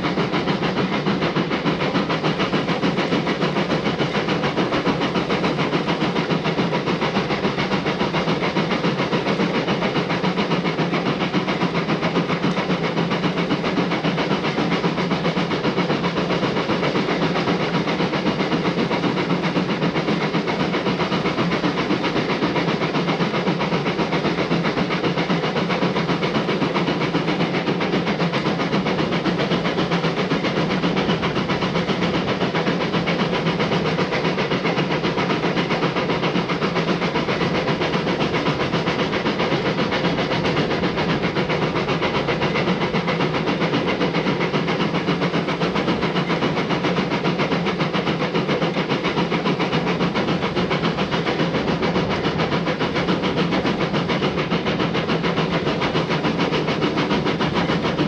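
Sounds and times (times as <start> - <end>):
hiss of steam: 0.0 - 58.0
steam locomotive running: 0.0 - 58.0.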